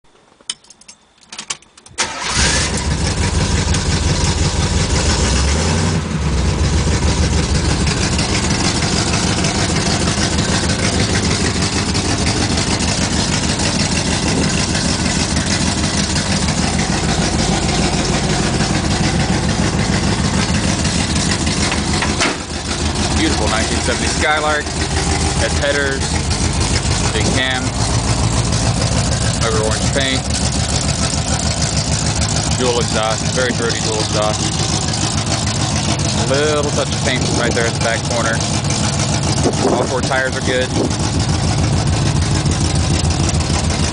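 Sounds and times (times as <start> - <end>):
car engine starting and idling: 1.0 - 43.9.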